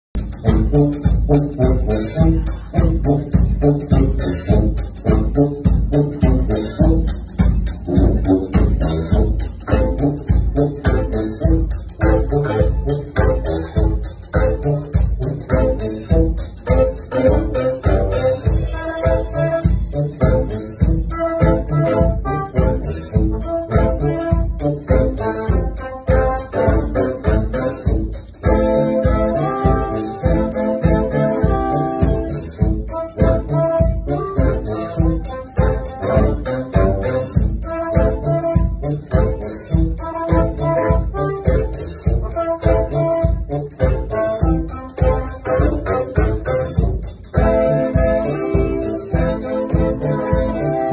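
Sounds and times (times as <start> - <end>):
drum kit beat: 0.0 - 50.9
horn band playing upbeat tune: 0.0 - 50.9.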